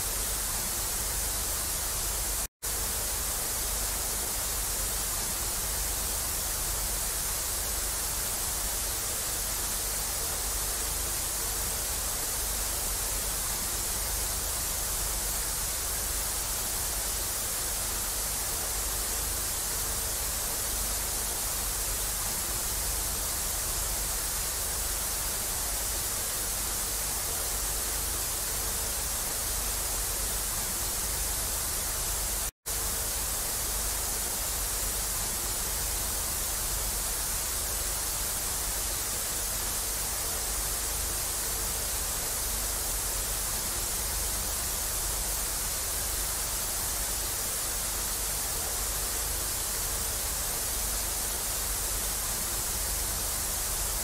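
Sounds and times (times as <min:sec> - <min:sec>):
tv static hiss: 0:00.0 - 0:54.0.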